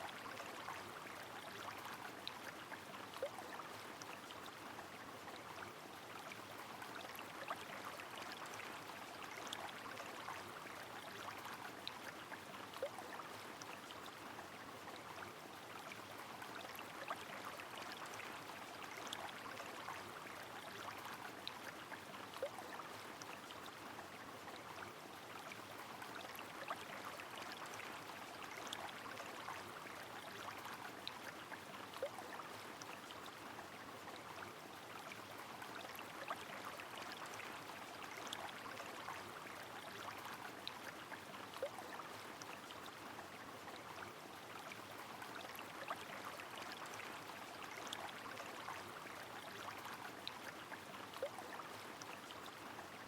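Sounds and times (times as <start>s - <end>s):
rain: 0.0s - 53.0s
river flowing: 0.0s - 53.0s.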